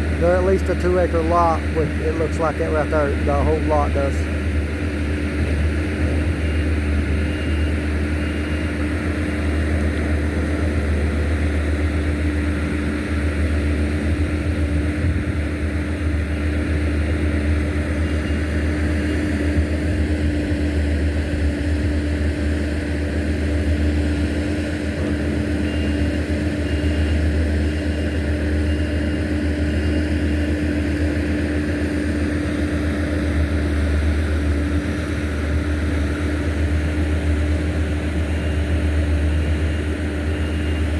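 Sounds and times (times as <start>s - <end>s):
low mechanical drone: 0.0s - 40.9s.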